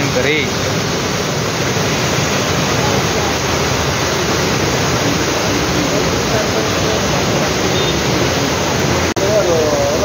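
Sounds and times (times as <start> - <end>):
floodwater rushing: 0.0 - 10.0
heavy rain pouring: 0.0 - 10.0.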